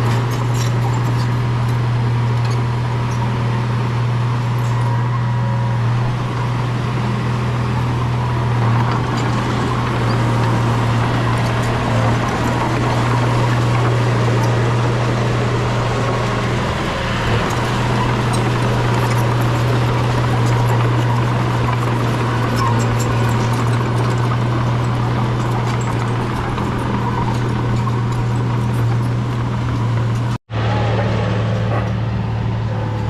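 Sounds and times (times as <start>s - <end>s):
bulldozer diesel engine droning: 0.0s - 33.0s.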